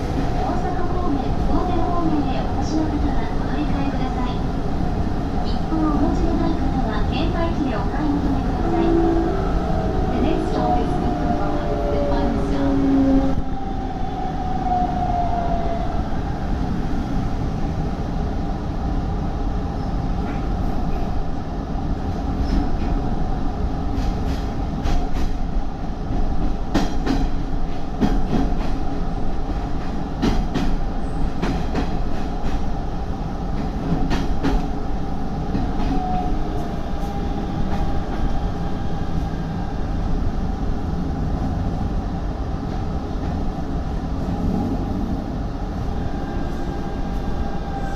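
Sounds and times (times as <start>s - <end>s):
train rumble: 0.0s - 47.9s.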